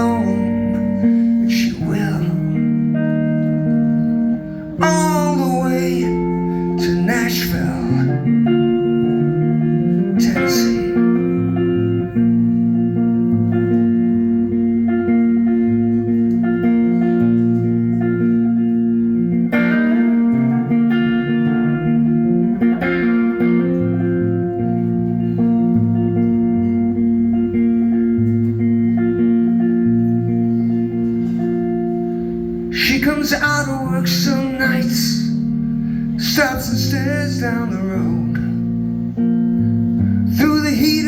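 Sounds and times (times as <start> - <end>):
bass line: 0.0 - 41.0
guitars playing sustained chords: 0.0 - 41.0.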